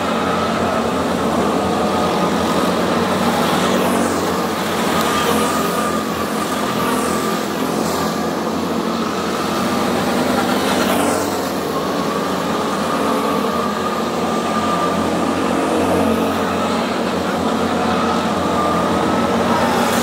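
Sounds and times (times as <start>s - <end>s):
go-kart engines passing: 0.0s - 20.0s.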